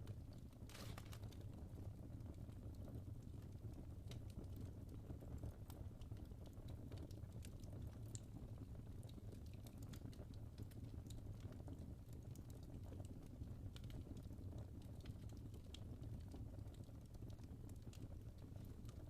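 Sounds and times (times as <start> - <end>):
logs crackling in fireplace: 0.0 - 19.0.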